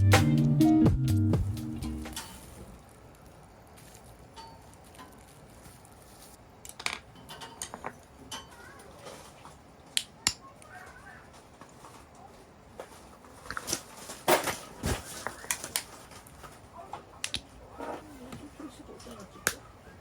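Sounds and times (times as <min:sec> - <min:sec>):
objects being handled: 0:02.0 - 0:19.7.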